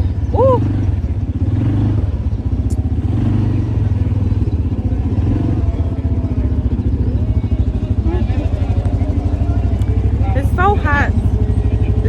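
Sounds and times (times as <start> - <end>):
quad bike engine chugging: 0.0 - 12.0.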